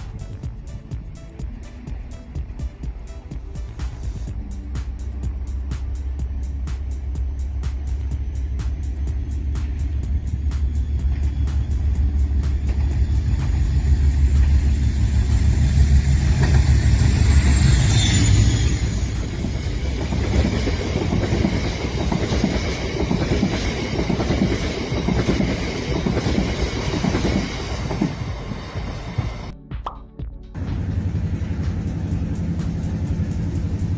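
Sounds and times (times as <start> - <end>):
train rattling and clattering: 0.0 - 29.6, 30.6 - 33.9
train rumbling by: 0.0 - 29.6, 30.6 - 33.9.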